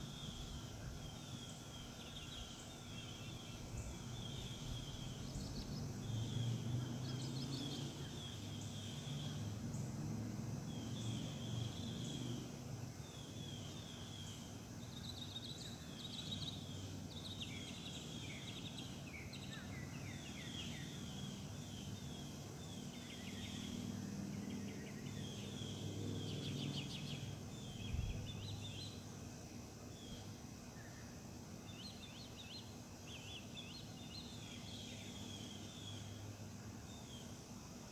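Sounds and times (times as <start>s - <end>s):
birds singing and chirping: 0.0s - 9.9s, 13.1s - 29.0s, 31.6s - 36.2s.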